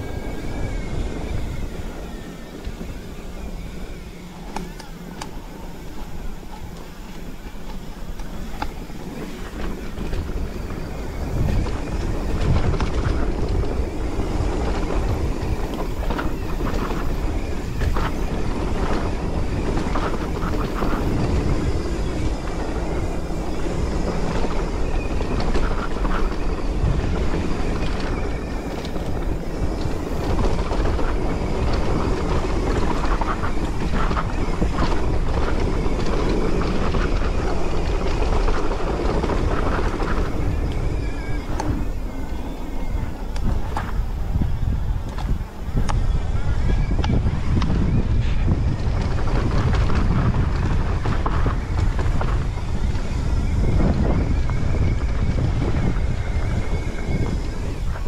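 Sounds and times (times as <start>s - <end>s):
bike rattles and knocks: 0.0s - 58.0s
bike tyres on dirt: 0.0s - 58.0s
wind rumbling on microphone: 0.0s - 58.0s.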